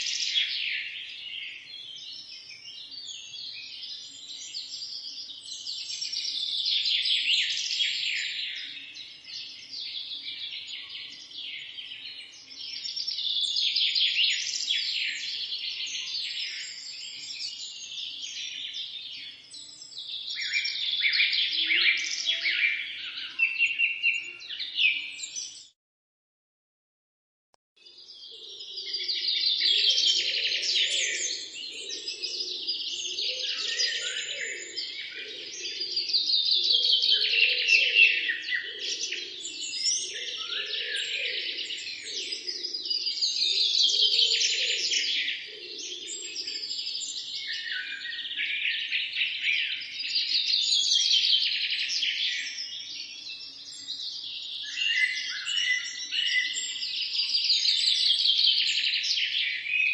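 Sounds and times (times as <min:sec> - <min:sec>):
songbirds chirping and trilling: 0:00.0 - 0:25.8, 0:27.8 - 0:59.9.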